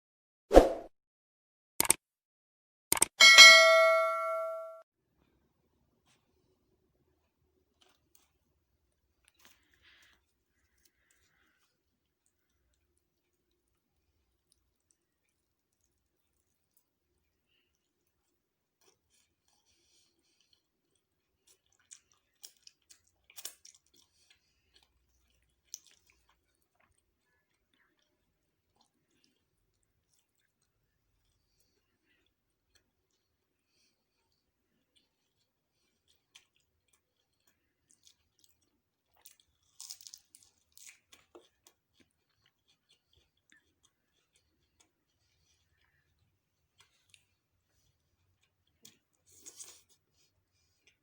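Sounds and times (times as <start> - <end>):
chewing with clicks and crackles: 5.2 - 51.0.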